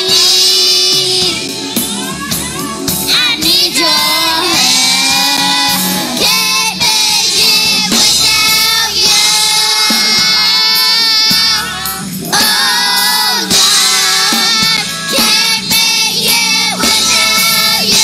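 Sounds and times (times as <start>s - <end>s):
children's choir singing: 0.0s - 18.0s.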